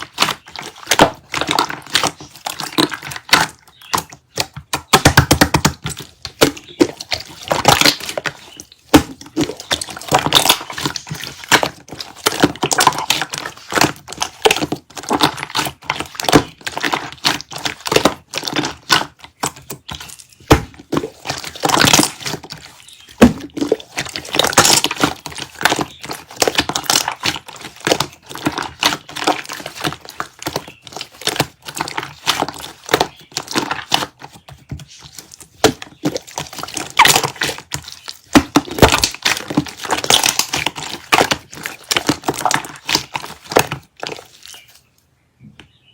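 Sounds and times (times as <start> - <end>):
slime squished by hand: 0.0 - 44.8.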